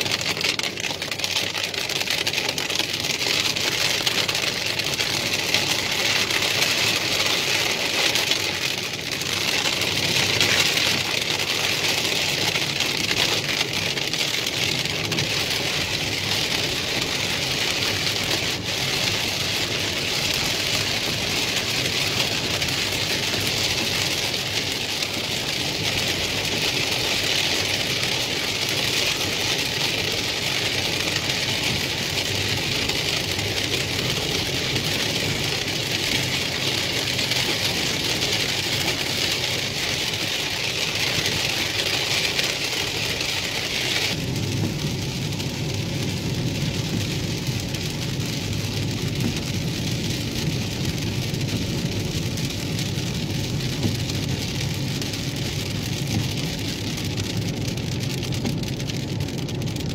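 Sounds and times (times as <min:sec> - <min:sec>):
engine and tyres rumbling: 0:00.0 - 0:59.9
heavy rain on a car: 0:00.0 - 0:59.9.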